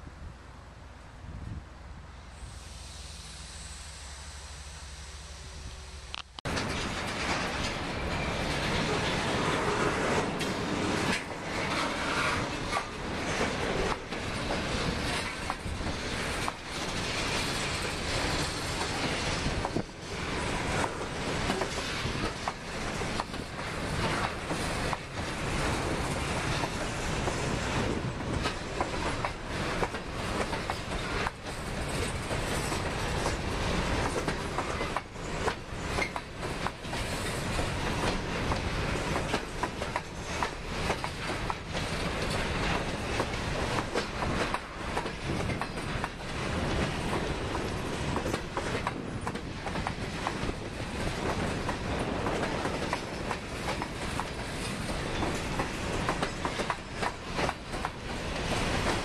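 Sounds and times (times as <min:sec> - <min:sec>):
train wheels clattering over rails: 0:06.5 - 0:59.0.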